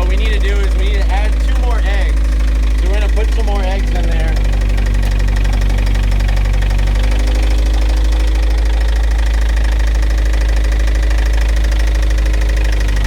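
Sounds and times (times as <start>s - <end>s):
car engine idling with knock: 0.0s - 13.0s.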